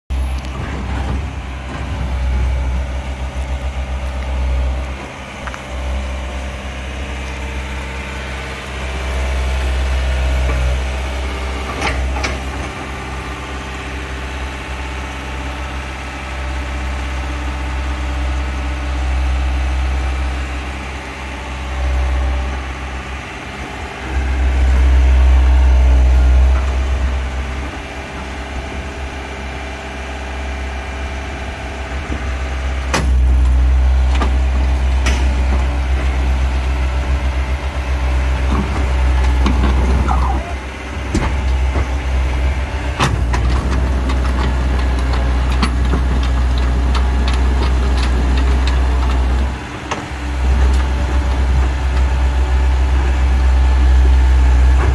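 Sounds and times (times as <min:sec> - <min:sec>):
diesel engine running: 0:00.1 - 0:54.9.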